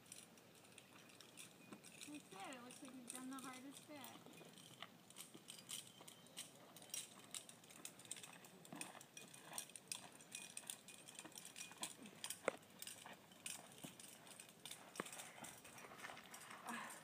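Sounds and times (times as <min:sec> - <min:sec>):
climbing gear clinking: 0:00.0 - 0:17.0.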